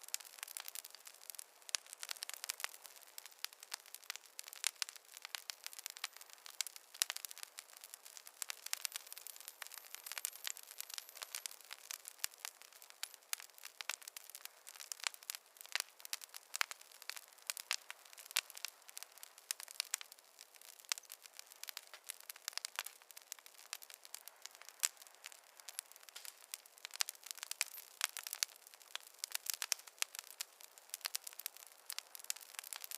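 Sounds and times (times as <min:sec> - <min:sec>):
faint hiss: 0:00.0 - 0:32.9
fire crackling and popping: 0:00.0 - 0:32.9.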